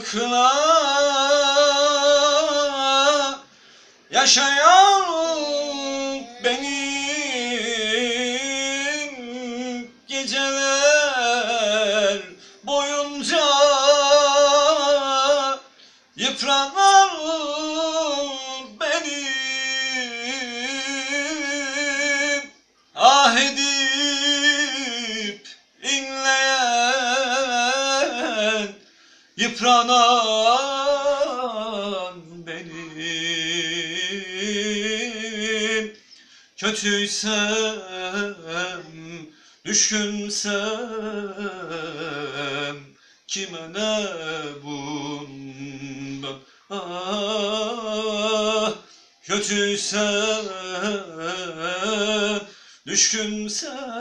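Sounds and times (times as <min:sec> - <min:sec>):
man singing unaccompanied: 0:00.0 - 0:36.0, 0:36.6 - 0:54.0.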